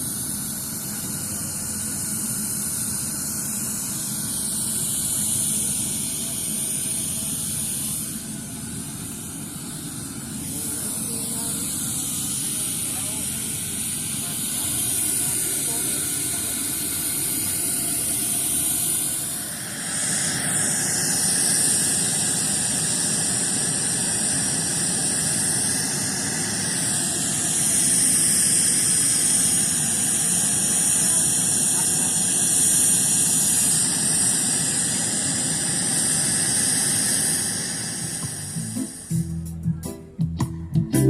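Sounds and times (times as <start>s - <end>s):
loud steady hissing whoosh: 0.0s - 39.6s.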